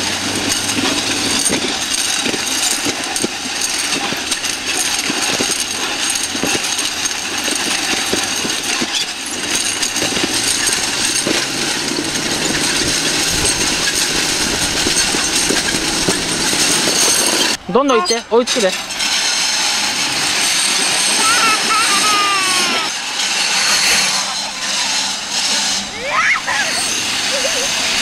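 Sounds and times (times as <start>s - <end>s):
metal rollers rattling: 0.0s - 28.0s.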